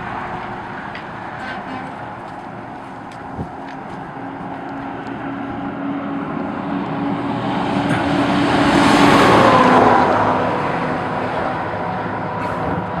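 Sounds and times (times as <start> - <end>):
car passing by: 0.0 - 13.0.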